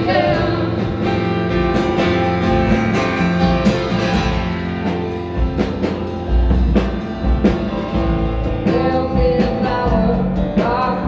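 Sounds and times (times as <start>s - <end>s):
band with guitars and drums: 0.0s - 11.0s.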